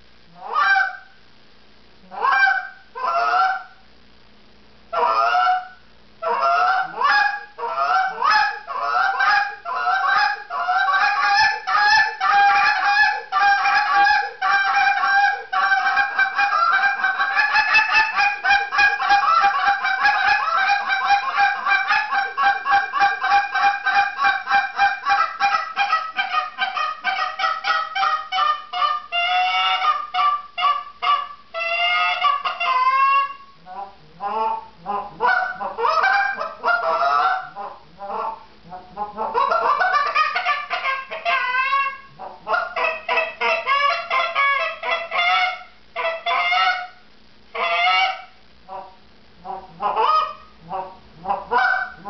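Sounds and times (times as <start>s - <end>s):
goose call honks and clucks: 0.3s - 1.1s, 2.0s - 3.8s, 4.9s - 52.0s.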